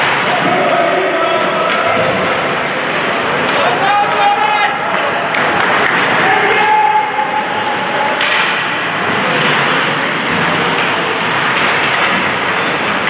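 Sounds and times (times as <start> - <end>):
ice hockey crowd din: 0.0 - 13.0.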